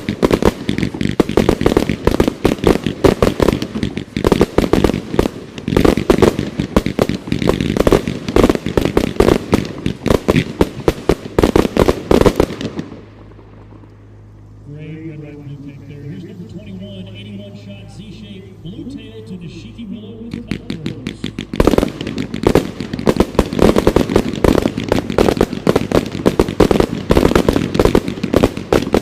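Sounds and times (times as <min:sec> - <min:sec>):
fireworks launching and bursting: 0:00.0 - 0:13.8, 0:18.7 - 0:29.0.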